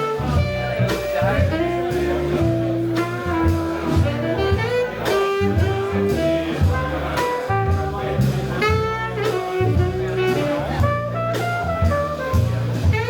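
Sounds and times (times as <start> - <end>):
jazz band playing: 0.0 - 13.0
saxophone melody: 0.0 - 13.0
walking double bass: 0.0 - 13.0.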